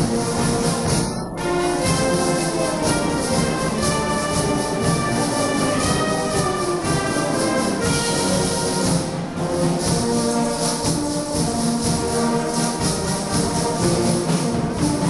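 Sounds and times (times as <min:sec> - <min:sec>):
brass band music: 0:00.0 - 0:15.0
timbrels shaking and striking: 0:00.0 - 0:15.0.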